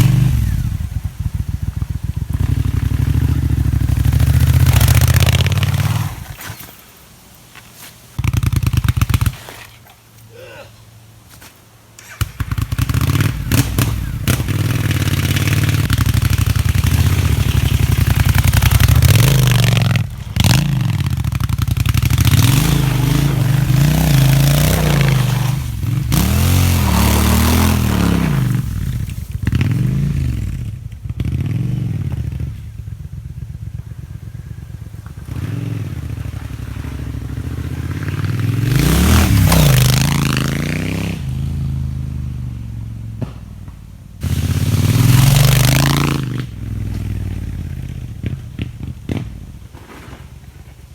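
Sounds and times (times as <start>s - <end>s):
motorcycle engine revving: 0.0s - 6.7s, 8.2s - 9.8s, 12.0s - 50.6s.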